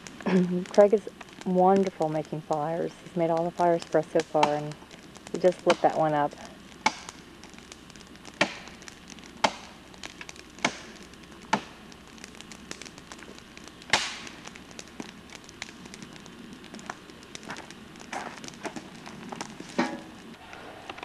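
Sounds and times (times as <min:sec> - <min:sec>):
dry branches snapping: 0:00.0 - 0:20.4.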